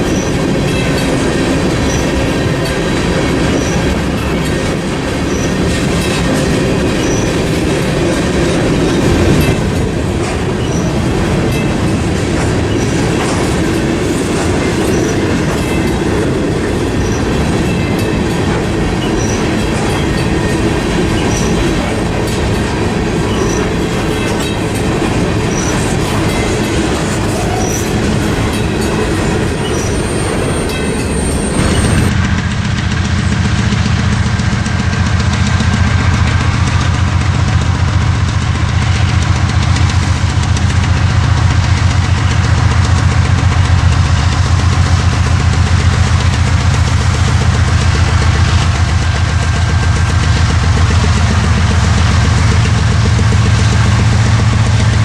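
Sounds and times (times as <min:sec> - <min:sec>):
train wheels clacking over rail joints: 0:00.0 - 0:55.0.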